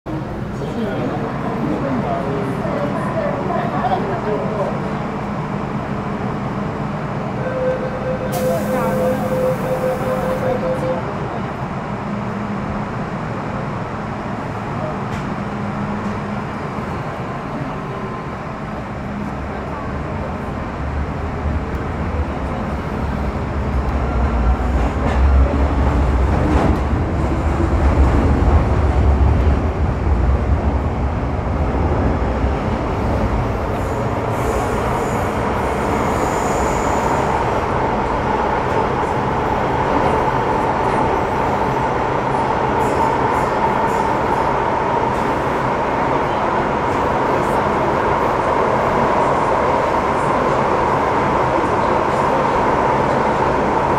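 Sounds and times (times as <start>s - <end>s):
train rumbling in tunnel: 0.0s - 53.9s.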